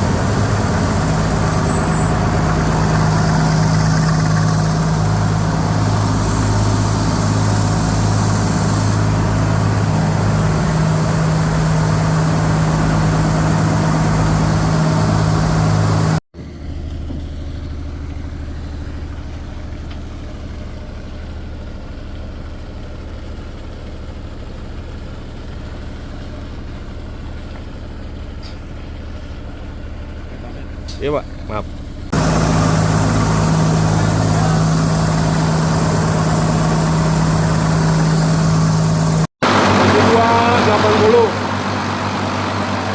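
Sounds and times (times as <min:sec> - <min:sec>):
compressor humming loudly: 0:00.0 - 0:22.4, 0:26.3 - 0:42.9.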